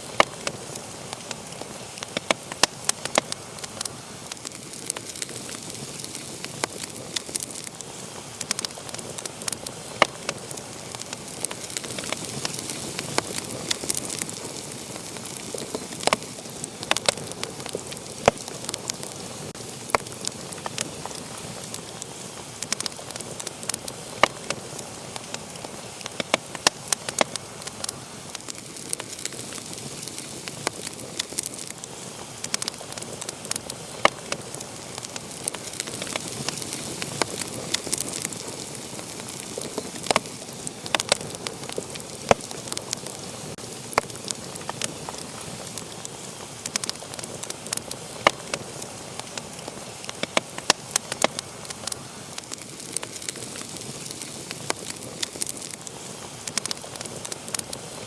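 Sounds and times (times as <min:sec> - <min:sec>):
soft steady hiss: 0:00.0 - 0:58.0
wood fire crackling and popping: 0:00.0 - 0:58.0.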